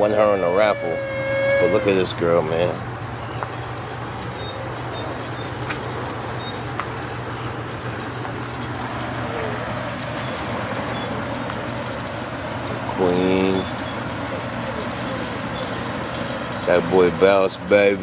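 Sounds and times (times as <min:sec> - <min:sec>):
low mechanical hum: 0:00.0 - 0:18.0
outdoor background noise: 0:00.0 - 0:18.0.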